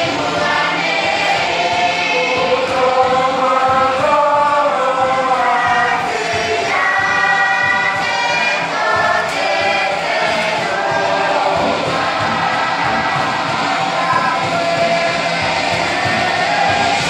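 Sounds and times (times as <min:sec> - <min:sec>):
group singing in parts: 0:00.0 - 0:17.0.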